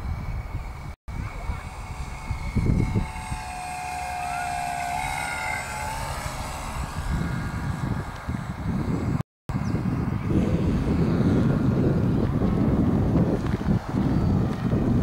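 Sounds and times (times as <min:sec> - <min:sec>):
electric motor and propeller whining: 0:00.0 - 0:15.0
wind rumbling on microphone: 0:00.0 - 0:15.0.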